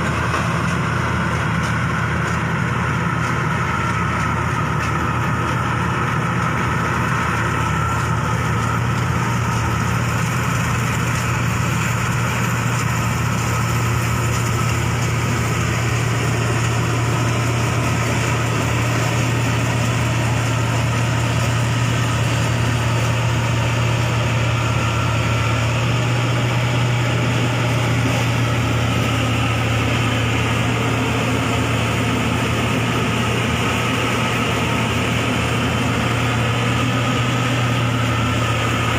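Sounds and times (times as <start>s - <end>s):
combine harvester engine running: 0.0s - 38.9s
machinery noise: 0.0s - 38.9s.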